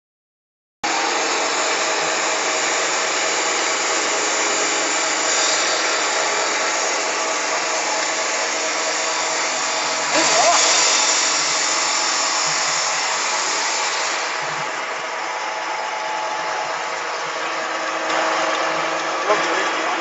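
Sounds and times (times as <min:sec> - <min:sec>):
pellet mill machine running: 0:00.8 - 0:20.0.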